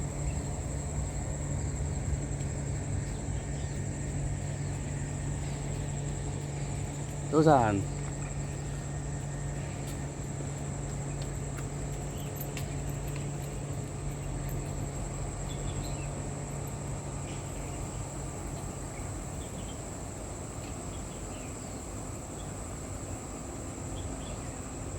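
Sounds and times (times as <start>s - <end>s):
boat engine droning: 0.0s - 24.9s
high-pitched insect trill: 0.0s - 24.9s.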